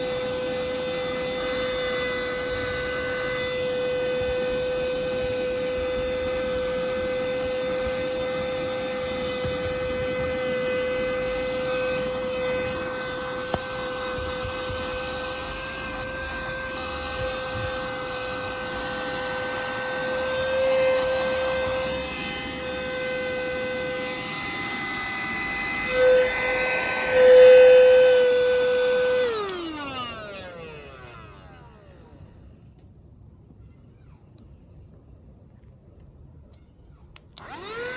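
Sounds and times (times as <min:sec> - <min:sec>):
mini vacuum cleaner whining: 0:00.0 - 0:32.7, 0:37.2 - 0:37.9.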